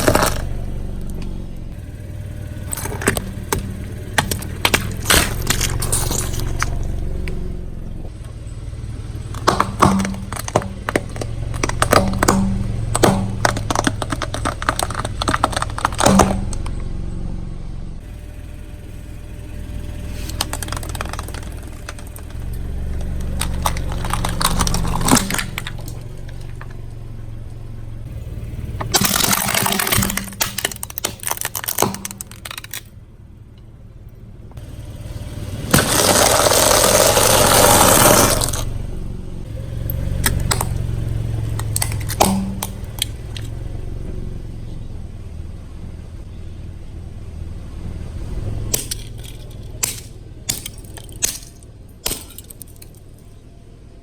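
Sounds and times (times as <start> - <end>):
car engine rumble: 0.0 - 54.0
objects crunching under tyres: 0.0 - 54.0.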